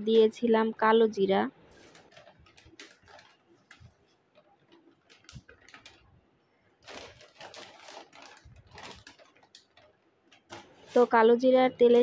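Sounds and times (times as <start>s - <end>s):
plastic bag crinkling: 1.6s - 11.4s.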